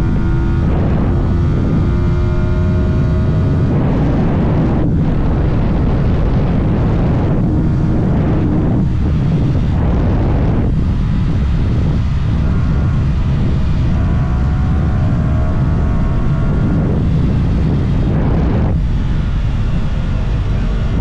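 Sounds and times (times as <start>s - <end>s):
motorcycle engine running: 0.0s - 21.0s
wind and road rush: 0.0s - 21.0s.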